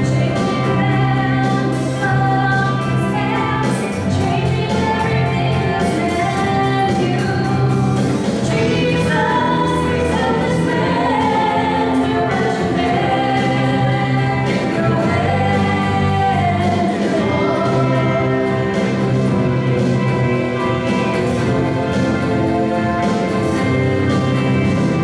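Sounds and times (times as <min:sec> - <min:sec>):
bass guitar: 0:00.0 - 0:25.0
drums: 0:00.0 - 0:25.0
electric guitar: 0:00.0 - 0:25.0
keyboard: 0:00.0 - 0:25.0
voices singing: 0:00.0 - 0:25.0.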